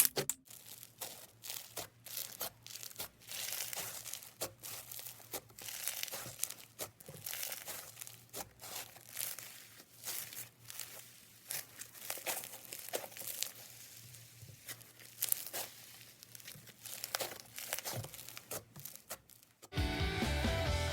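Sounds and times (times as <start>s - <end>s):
slime squeezed by hand crackling: 0.0s - 19.7s.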